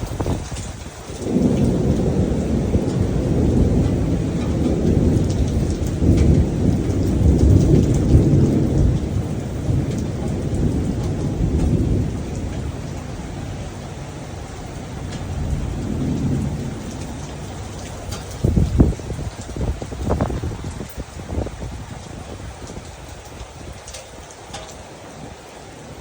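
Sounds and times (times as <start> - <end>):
thunder rumbling: 0.0 - 25.4
rain falling: 0.0 - 26.0.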